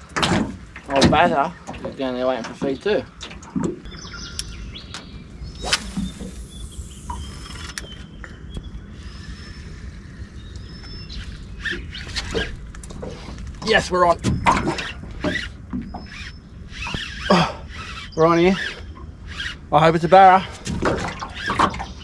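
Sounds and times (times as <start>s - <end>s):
low rumble: 3.1s - 21.0s
birds whistling: 3.9s - 22.0s.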